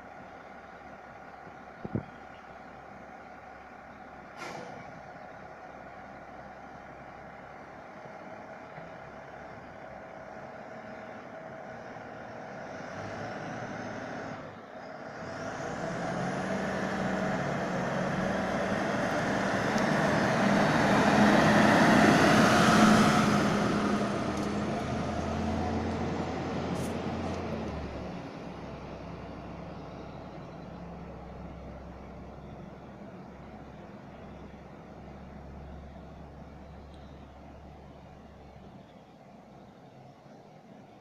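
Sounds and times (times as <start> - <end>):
truck engine driving past: 0.0 - 38.9.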